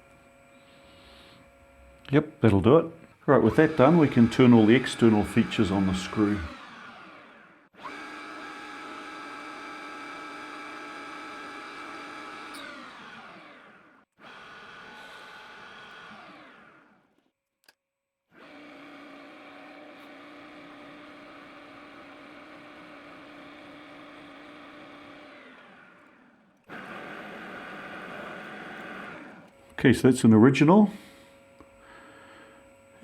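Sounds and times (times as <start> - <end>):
lathe whining: 0.0 - 17.2, 18.4 - 33.0.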